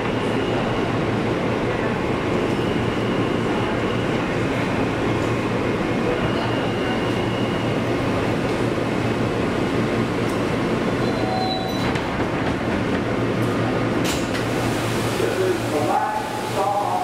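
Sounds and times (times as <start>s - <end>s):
wheels rumbling on rail: 0.0s - 16.9s.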